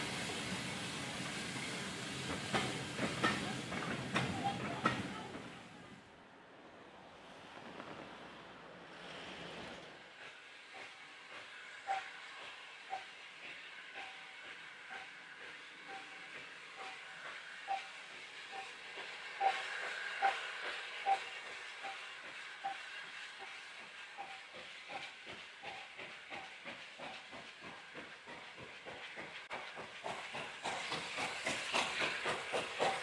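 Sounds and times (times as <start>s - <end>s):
steam locomotive exhaust beats: 0.0s - 5.9s, 7.5s - 33.0s
steady steam hiss: 0.0s - 6.1s, 6.7s - 33.0s.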